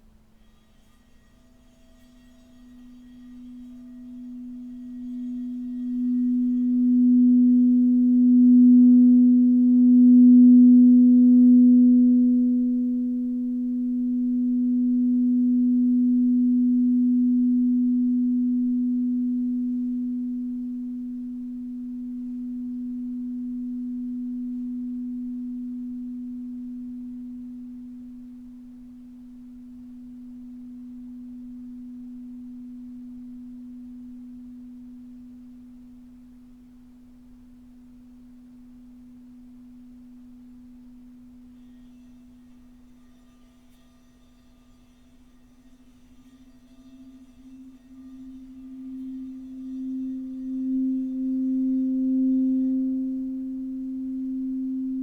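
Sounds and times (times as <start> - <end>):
faint higher ringing: 0.0 - 55.0
singing bowl low tone: 0.0 - 55.0.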